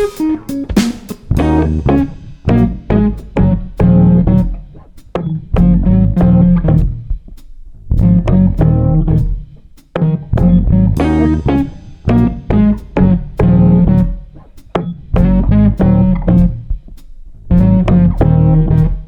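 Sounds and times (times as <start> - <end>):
plucked guitar: 0.0 - 7.2, 8.0 - 16.8, 17.5 - 19.0
bass guitar: 0.0 - 19.0.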